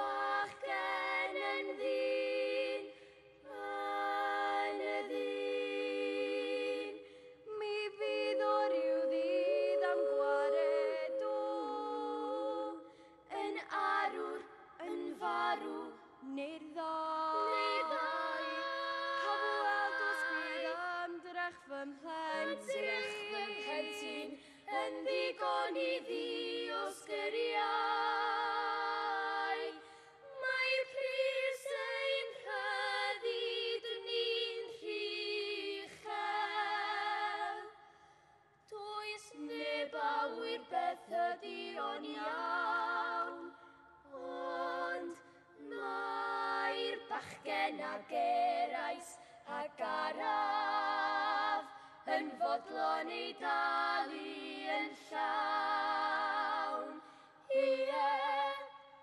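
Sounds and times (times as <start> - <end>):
girls singing in harmony: 0.0 - 37.9, 38.7 - 59.0.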